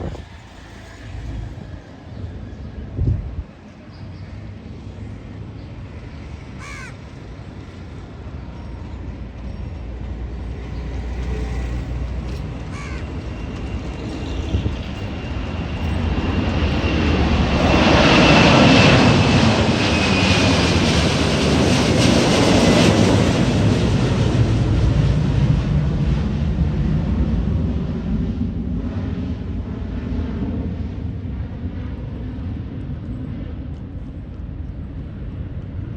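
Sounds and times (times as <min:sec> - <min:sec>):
high engine whine: 0:00.0 - 0:35.9
jet engines at takeoff thrust: 0:00.0 - 0:35.9.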